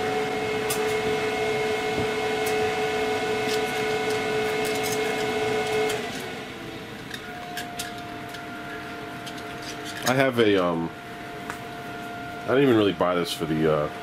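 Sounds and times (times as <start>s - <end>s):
grill motor humming: 0.0s - 14.0s.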